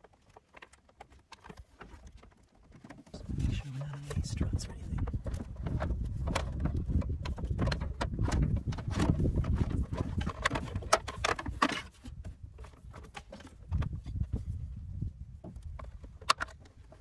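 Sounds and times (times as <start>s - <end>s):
cable knocking against plastic: 0.0s - 14.4s.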